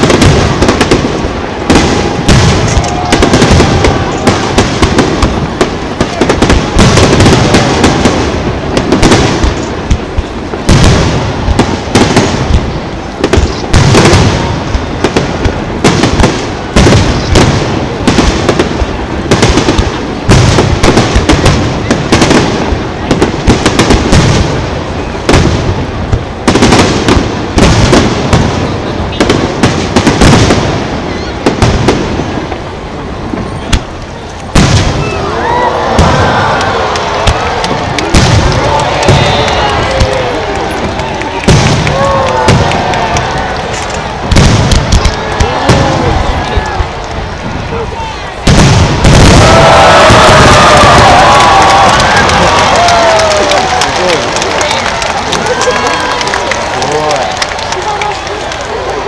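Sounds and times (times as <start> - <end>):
fireworks booming and crackling: 0.0 - 59.0.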